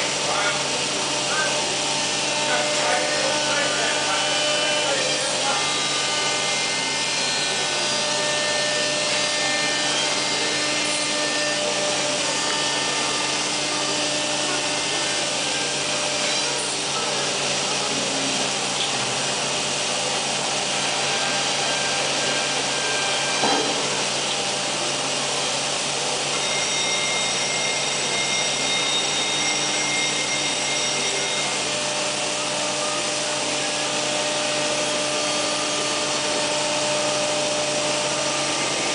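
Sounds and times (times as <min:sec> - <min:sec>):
cnc router machine noise: 0:00.0 - 0:38.9.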